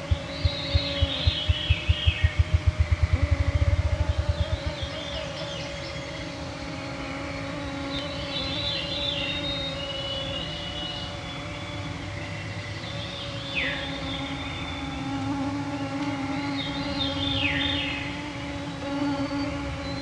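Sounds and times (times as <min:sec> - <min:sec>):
faint birdsong: 0:00.0 - 0:20.0
mosquitoes whining: 0:00.0 - 0:20.0.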